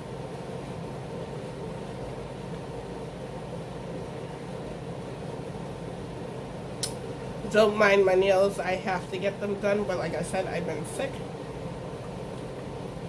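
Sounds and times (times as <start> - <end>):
air conditioner fan humming: 0.0 - 13.0.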